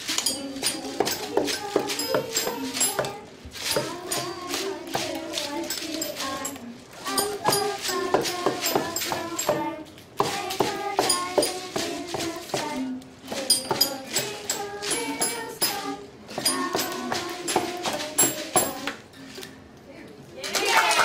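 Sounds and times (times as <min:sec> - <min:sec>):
can shakers rattling: 0:00.0 - 0:19.7.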